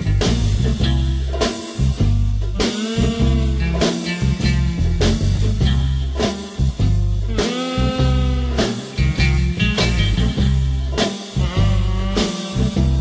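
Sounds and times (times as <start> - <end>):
rock music with bass and guitar: 0.0 - 13.0.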